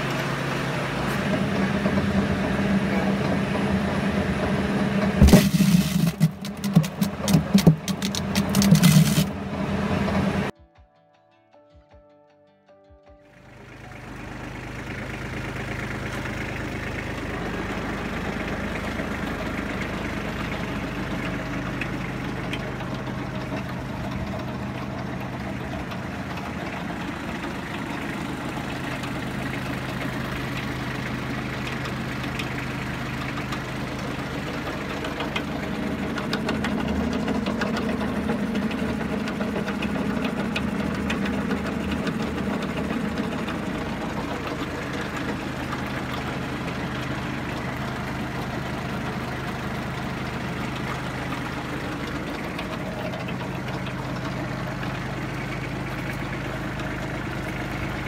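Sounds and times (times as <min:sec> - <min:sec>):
tractor diesel engine running: 0:00.0 - 0:10.6, 0:13.2 - 0:58.0.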